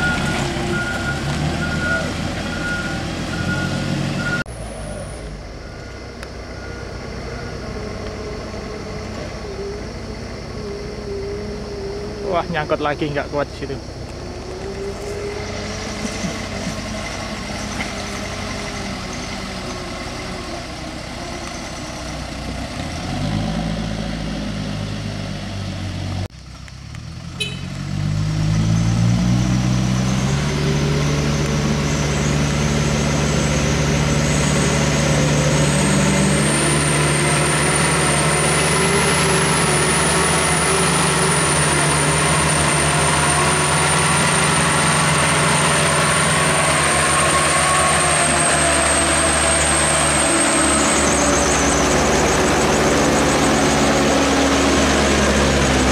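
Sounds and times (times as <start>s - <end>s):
diesel truck engine labouring: 0.0s - 55.9s.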